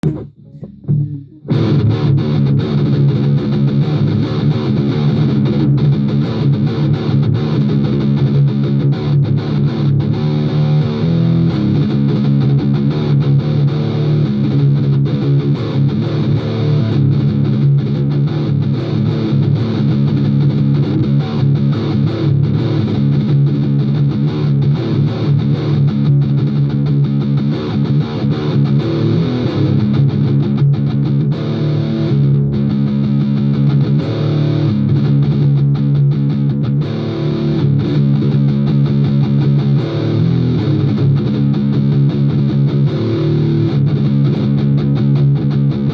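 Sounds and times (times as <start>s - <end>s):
distorted electric guitar music: 0.0s - 45.9s.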